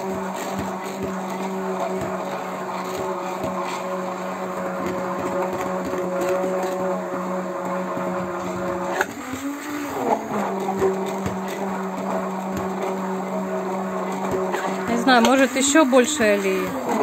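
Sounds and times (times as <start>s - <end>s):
immersion blender motor whine: 0.0s - 17.0s.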